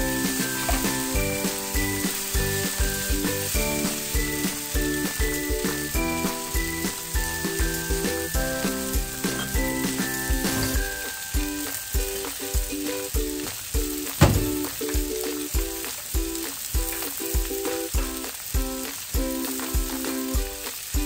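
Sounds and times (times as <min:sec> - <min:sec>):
background music with beat: 0:00.0 - 0:21.0
food sizzling in pan: 0:00.0 - 0:21.0.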